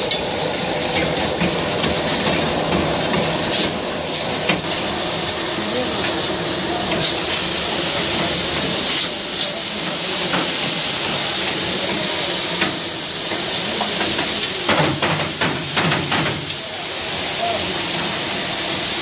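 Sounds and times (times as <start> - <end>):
pressure cookers hissing steam: 0.0 - 19.0.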